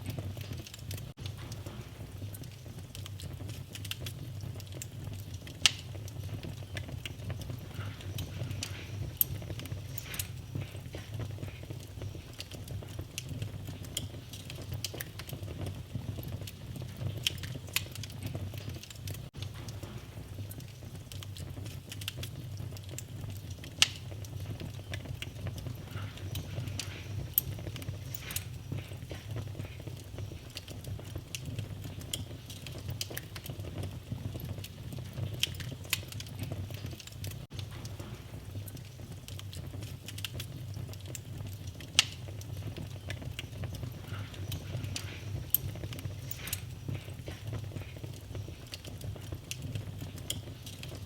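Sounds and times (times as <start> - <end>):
low rumble of flames: 0.0 - 51.0
wood fire crackling: 0.0 - 51.0.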